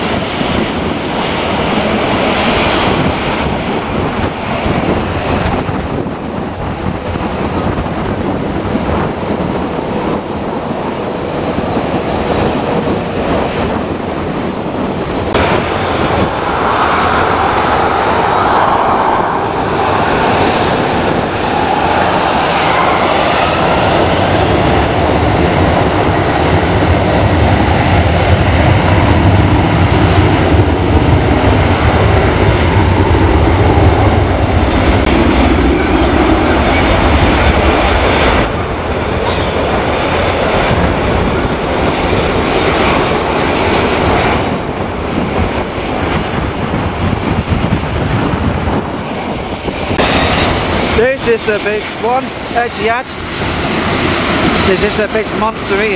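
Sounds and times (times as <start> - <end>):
jet engine whine: 0.0 - 55.9
jet engines roaring: 0.0 - 55.9.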